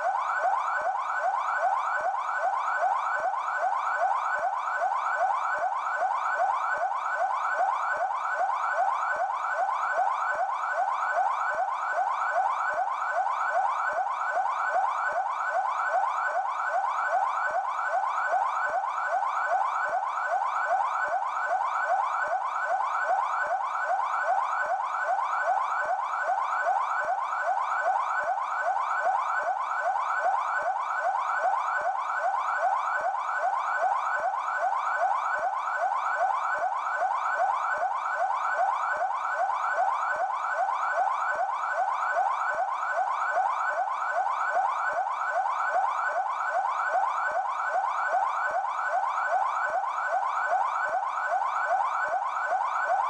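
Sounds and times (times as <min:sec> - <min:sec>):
police siren yelp: 0:00.0 - 0:53.0.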